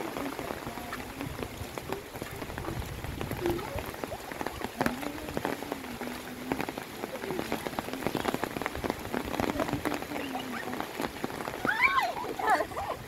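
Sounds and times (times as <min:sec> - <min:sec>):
heavy rain: 0:00.0 - 0:13.0
rain drops striking close by: 0:00.0 - 0:13.0.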